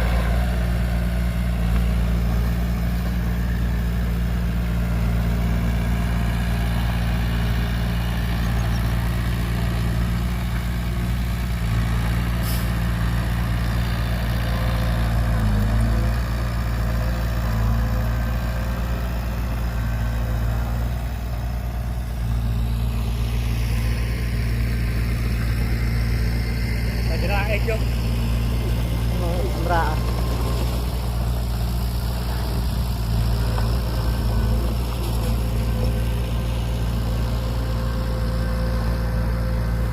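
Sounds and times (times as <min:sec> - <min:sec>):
heavy diesel engine idling: 0:00.0 - 0:39.9.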